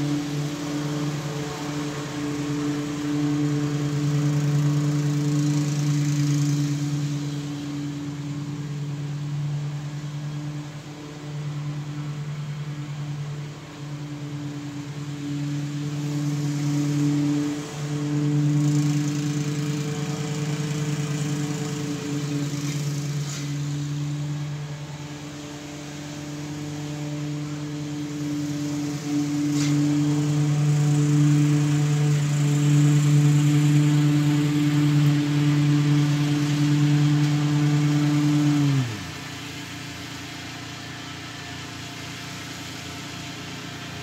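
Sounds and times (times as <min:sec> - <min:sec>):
distant engine running: 0:00.0 - 0:44.0.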